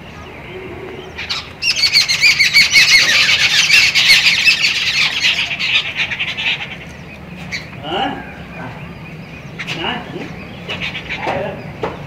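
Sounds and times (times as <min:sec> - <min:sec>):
birds squawking: 0:00.0 - 0:12.0.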